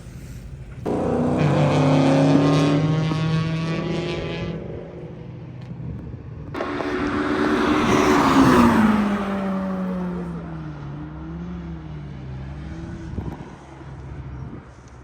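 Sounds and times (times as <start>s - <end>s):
vehicle engine at speed: 0.0s - 15.0s.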